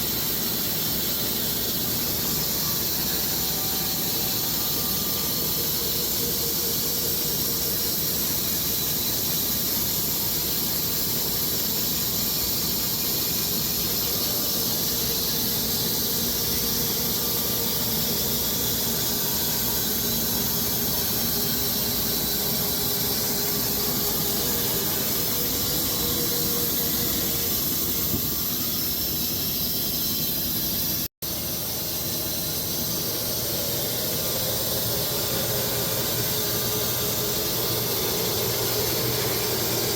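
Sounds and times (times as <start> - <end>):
band sawmill hissing: 0.0 - 39.9.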